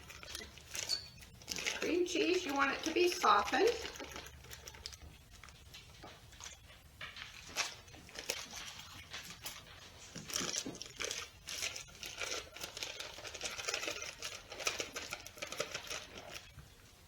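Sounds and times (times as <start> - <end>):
wrappers crinkling and tearing: 0.0 - 16.6.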